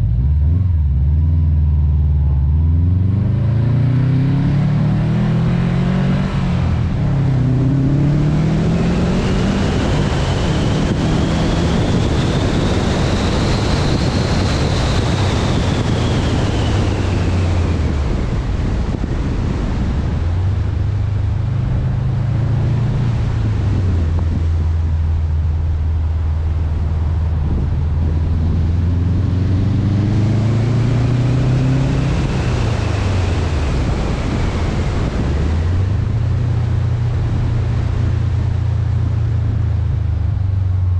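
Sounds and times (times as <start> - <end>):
car engine revving: 0.0 - 40.5
wind noise on microphone: 0.0 - 40.9.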